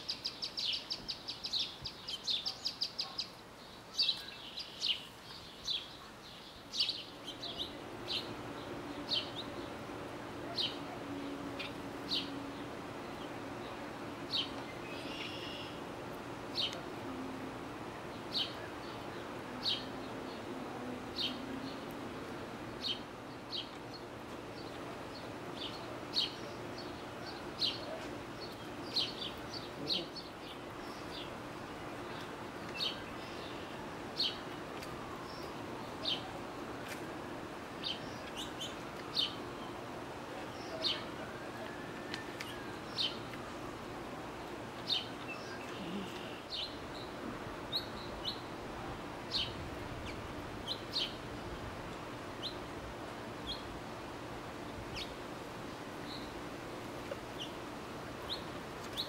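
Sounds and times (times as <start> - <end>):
faint steady hum: 0.0 - 59.0
songbirds chirping: 0.0 - 59.0.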